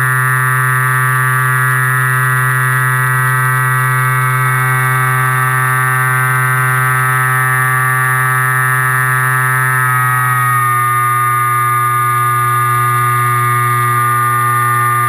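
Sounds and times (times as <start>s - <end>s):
model plane motor and propeller drone: 0.0s - 15.0s.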